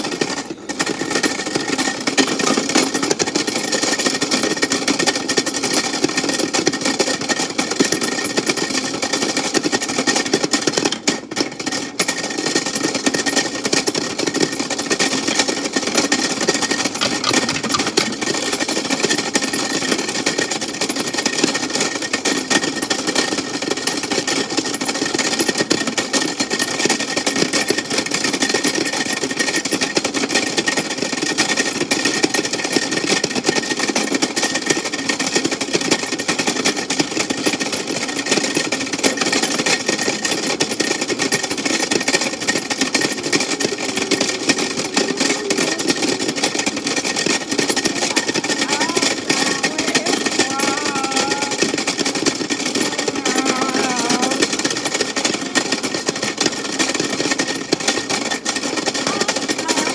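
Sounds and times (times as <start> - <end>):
toy washing machine drum rattling: 0.0 - 59.9.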